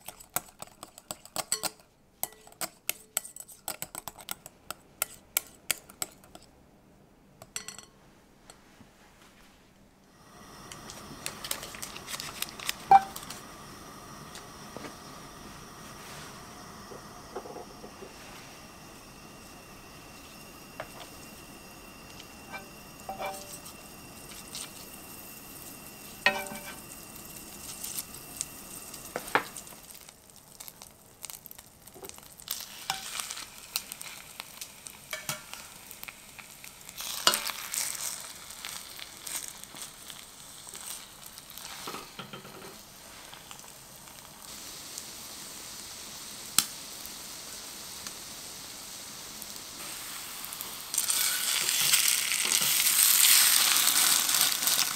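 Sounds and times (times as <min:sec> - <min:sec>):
bread frying in butter: 0:10.2 - 0:54.9.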